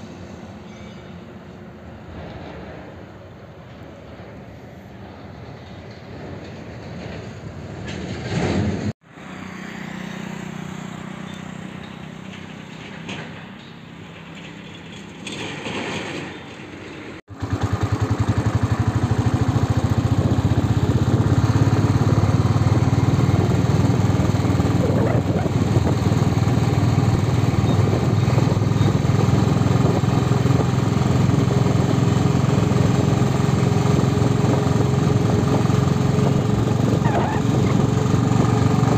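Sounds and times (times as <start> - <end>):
traffic noise: 0.0 - 38.9
vehicle engine and road noise: 0.0 - 38.9.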